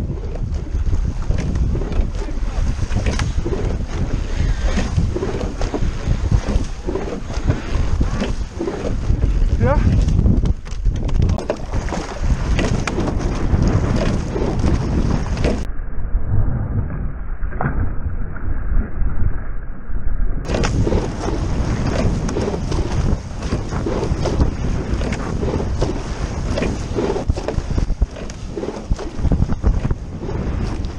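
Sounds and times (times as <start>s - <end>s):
water rushing along hull: 0.0s - 15.7s, 20.5s - 30.9s
wind buffeting microphone: 0.0s - 19.4s, 20.4s - 30.9s.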